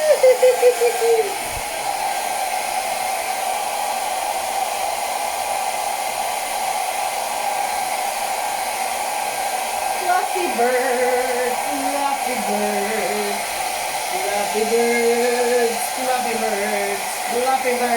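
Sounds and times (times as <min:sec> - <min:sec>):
hair dryer blowing: 0:00.0 - 0:17.9.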